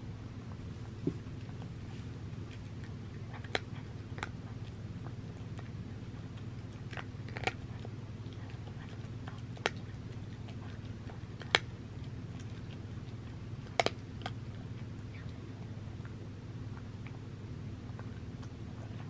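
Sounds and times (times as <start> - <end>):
cat chewing and licking: 0.4 - 19.0.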